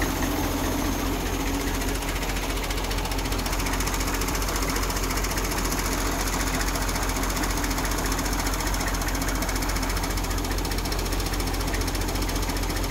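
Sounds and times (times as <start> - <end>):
diesel tractor engine idling: 0.0 - 12.9.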